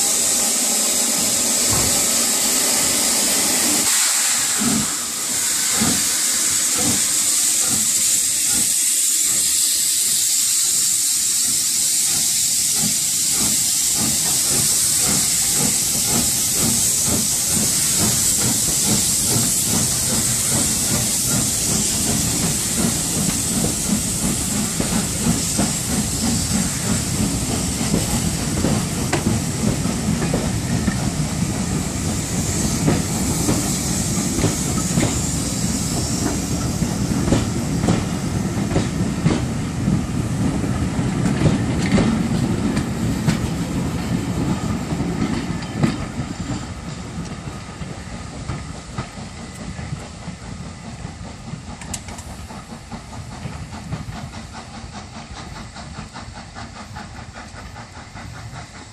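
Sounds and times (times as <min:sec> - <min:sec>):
steam hissing from locomotive: 0:00.0 - 0:58.9
train wheels clicking over joints: 0:00.0 - 0:58.9.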